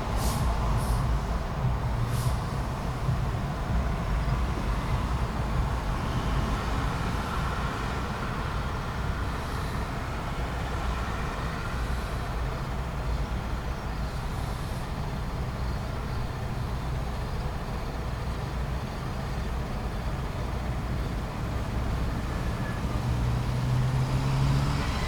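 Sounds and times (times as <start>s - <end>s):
traffic low rumble: 0.0s - 25.0s.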